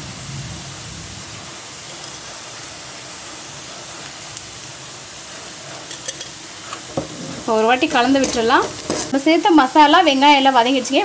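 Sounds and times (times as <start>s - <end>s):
onions sizzling in butter: 0.1s - 11.0s.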